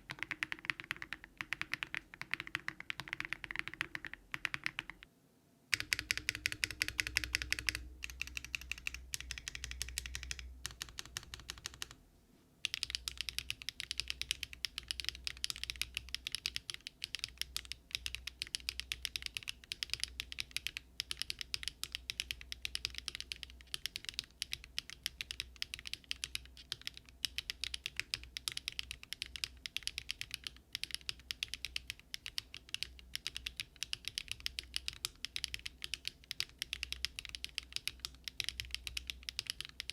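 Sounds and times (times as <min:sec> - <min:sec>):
mechanical keyboard typing clacks: 0:00.0 - 0:05.0, 0:05.7 - 0:12.0, 0:12.7 - 0:39.9.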